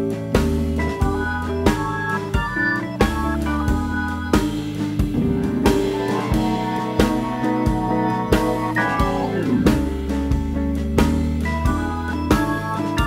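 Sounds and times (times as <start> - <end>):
music with drum beat and bass: 0.0 - 13.0.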